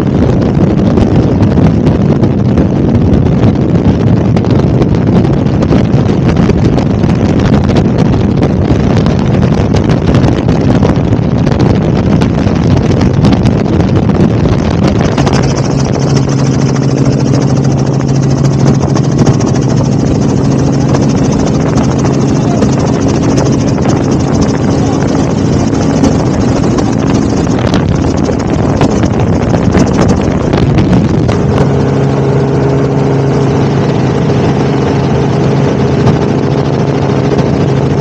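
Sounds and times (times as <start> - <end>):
helicopter engine and rotor: 0.0 - 38.0.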